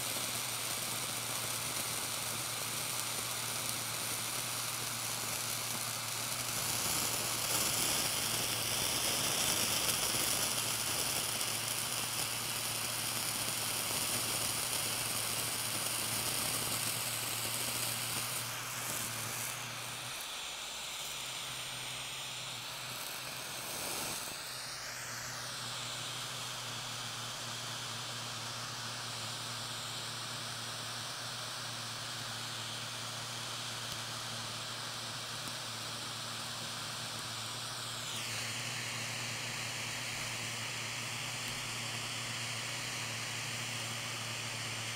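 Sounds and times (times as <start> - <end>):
blowtorch flame hissing: 0.0 - 44.9.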